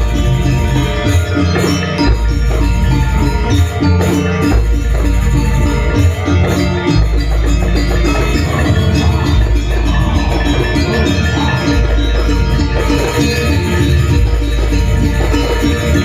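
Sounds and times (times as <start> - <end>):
drums playing: 0.0 - 16.0
tuned metal percussion: 0.0 - 16.0.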